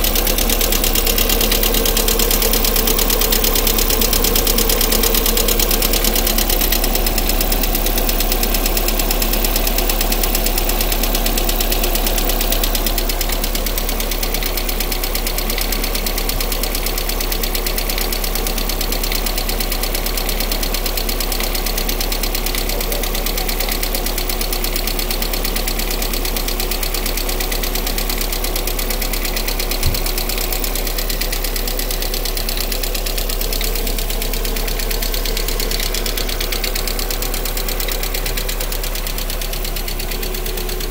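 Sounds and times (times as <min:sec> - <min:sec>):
car engine idling with knocking tick: 0:00.0 - 0:40.9.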